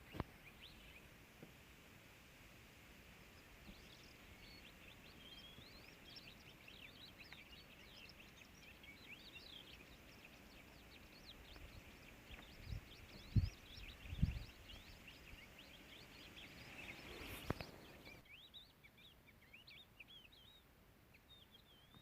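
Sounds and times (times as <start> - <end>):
background hiss: 0.0 - 22.0
small birds chirping: 0.0 - 22.0.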